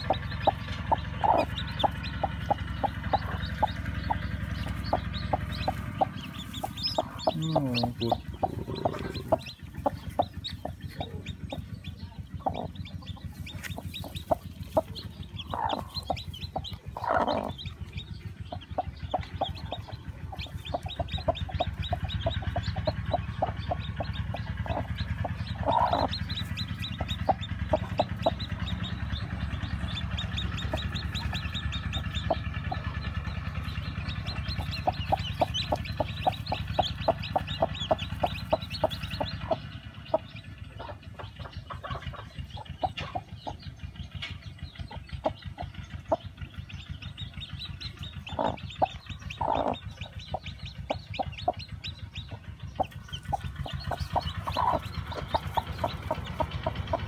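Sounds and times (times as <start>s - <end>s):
chicks peeping: 0.0s - 57.0s
hen clucking: 0.0s - 57.0s.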